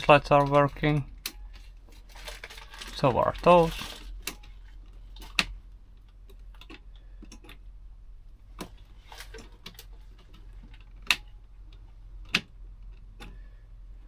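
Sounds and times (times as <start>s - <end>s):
plastic parts clicking and tapping: 0.0s - 7.7s, 8.5s - 13.5s.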